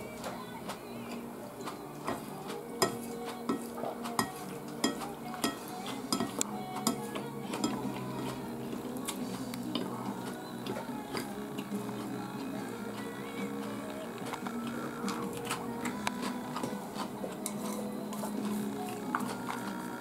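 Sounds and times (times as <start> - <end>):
chopsticks clinking on bowls: 1.1 - 20.0.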